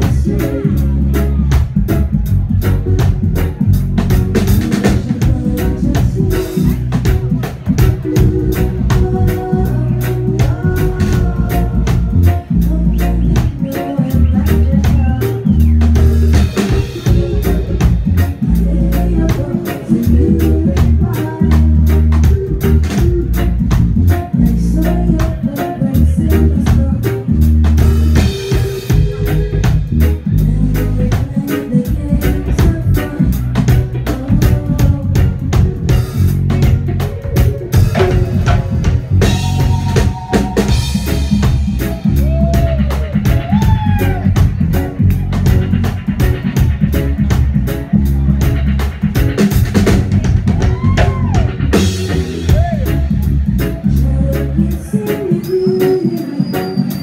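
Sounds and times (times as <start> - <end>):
person singing: 0.0 - 45.8, 49.4 - 57.0
bass guitar line: 0.0 - 57.0
drum kit: 0.0 - 57.0
live reggae band playing: 0.0 - 57.0.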